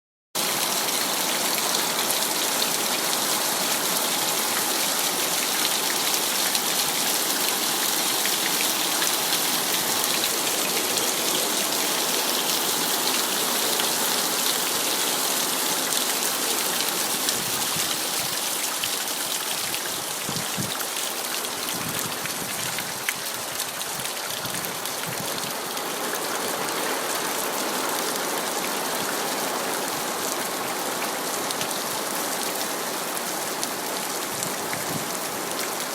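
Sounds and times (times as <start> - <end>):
heavy rain pattering: 0.4 - 35.9.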